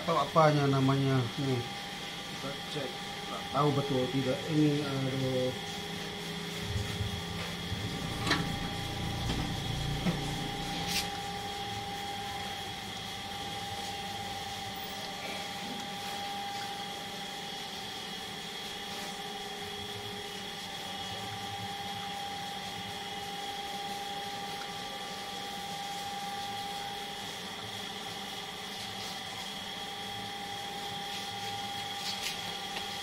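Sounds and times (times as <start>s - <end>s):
machine hum with high whine: 0.0s - 33.0s.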